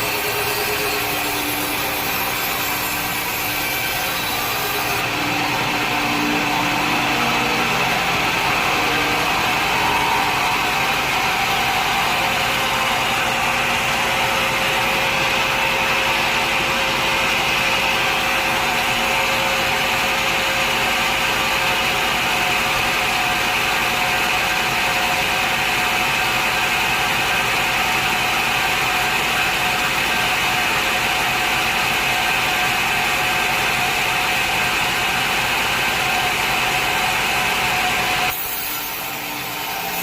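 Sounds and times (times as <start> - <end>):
saw whine: 0.0 - 40.0
sawmill mechanical drone: 0.0 - 40.0.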